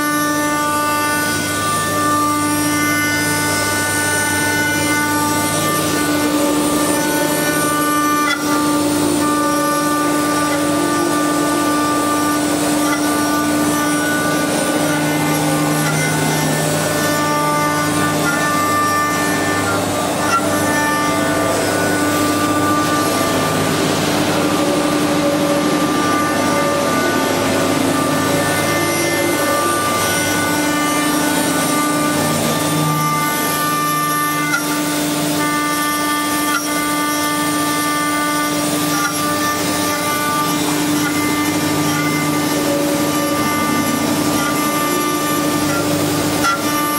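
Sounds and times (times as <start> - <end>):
bits carving wood: 0.0 - 23.2, 27.8 - 46.9
router spindles whining: 0.0 - 46.9.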